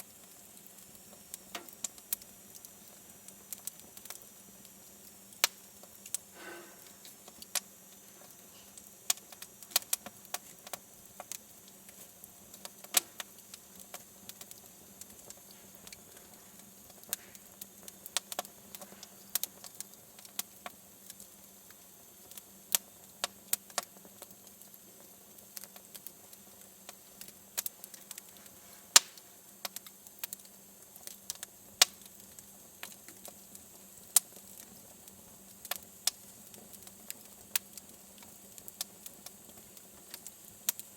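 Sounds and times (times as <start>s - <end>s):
faint steady hiss: 0.0s - 40.9s
wood fire crackling: 0.0s - 40.9s.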